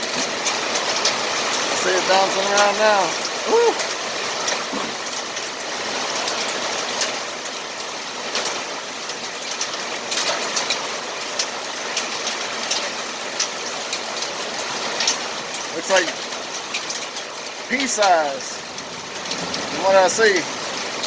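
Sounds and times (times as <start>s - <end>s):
hailstones pinging on hard surfaces: 0.0s - 21.0s
rain downpour hiss: 0.0s - 21.0s.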